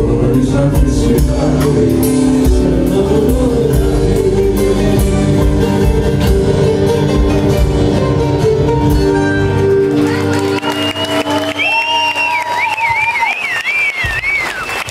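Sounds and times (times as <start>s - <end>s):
live band playing: 0.0s - 14.9s.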